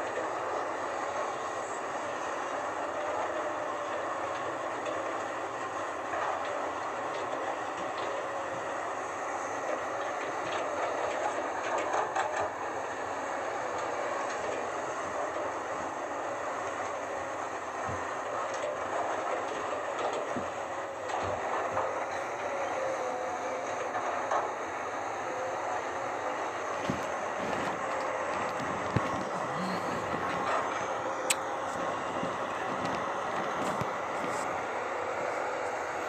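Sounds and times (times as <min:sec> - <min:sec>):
excavator diesel engine running: 0:00.0 - 0:36.0
faint hydraulic whine: 0:00.0 - 0:36.0.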